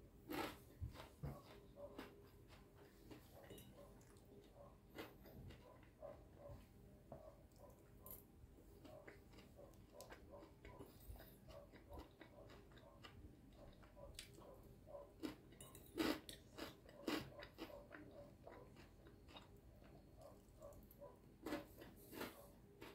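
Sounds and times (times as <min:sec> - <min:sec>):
quiet chewing with crunches: 0:00.2 - 0:22.9.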